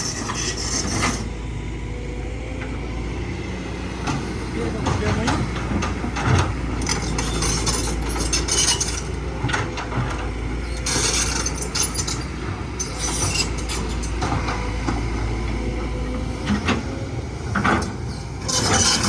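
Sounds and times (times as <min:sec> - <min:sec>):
steel tracks squealing and clanking: 0:00.0 - 0:01.4, 0:04.2 - 0:15.1, 0:16.0 - 0:19.0
excavator engine rumble: 0:00.0 - 0:19.0.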